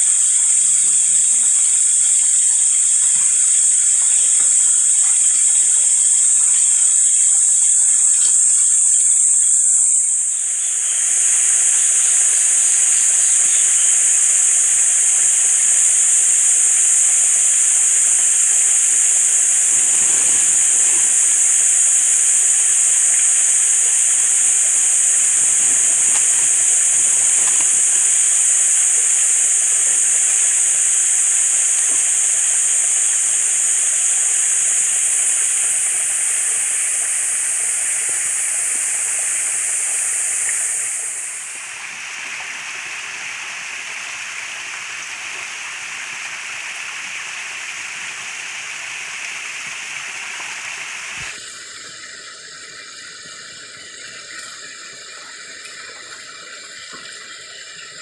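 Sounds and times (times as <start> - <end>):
high-pitched outdoor hiss: 0.0 - 58.0.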